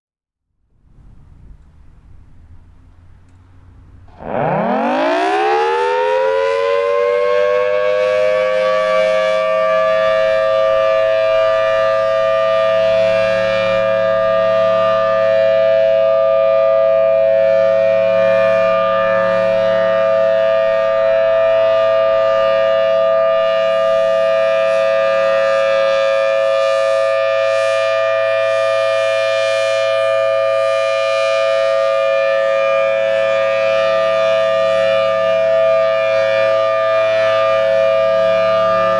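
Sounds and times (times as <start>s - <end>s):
warning siren winding up: 2.6s - 38.9s.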